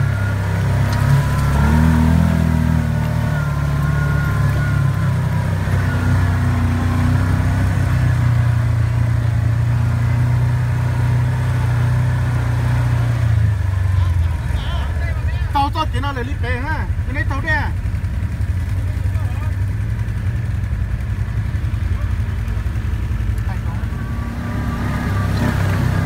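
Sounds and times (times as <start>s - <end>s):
utility vehicle engine running: 0.0s - 26.0s.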